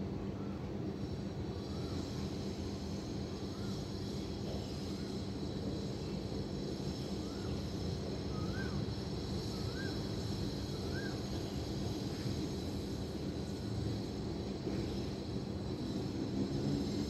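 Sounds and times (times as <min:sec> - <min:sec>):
distant city traffic rumble: 0:00.0 - 0:17.0.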